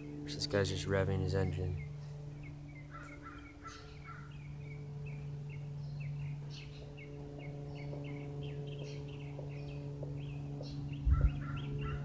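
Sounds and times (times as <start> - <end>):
light aircraft engine drone: 0.0 - 12.0
small bird chirping: 1.7 - 12.0.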